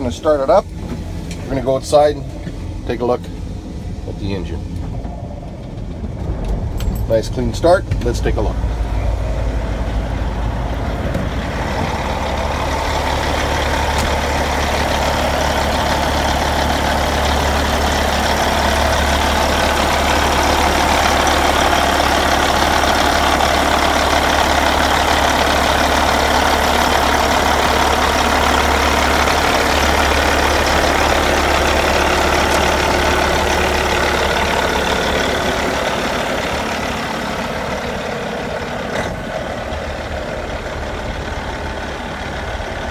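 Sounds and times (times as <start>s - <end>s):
diesel truck engine idling: 0.0s - 42.9s.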